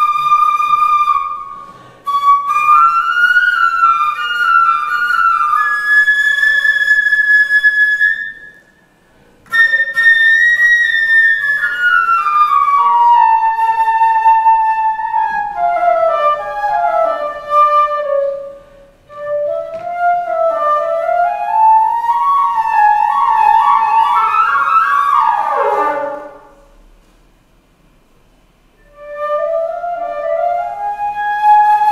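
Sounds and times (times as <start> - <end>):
flute melody: 0.0 - 8.8, 9.4 - 26.8, 28.8 - 31.9.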